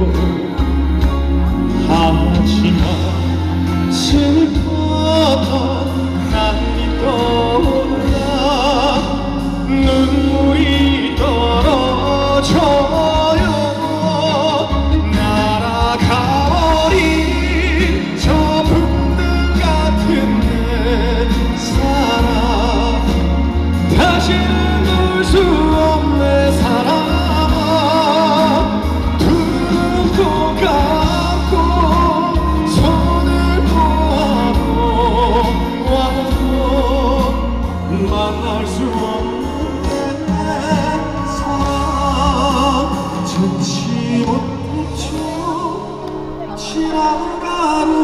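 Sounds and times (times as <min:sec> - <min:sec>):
backing track with steady bass: 0:00.0 - 0:48.0
man singing with vibrato: 0:00.0 - 0:48.0.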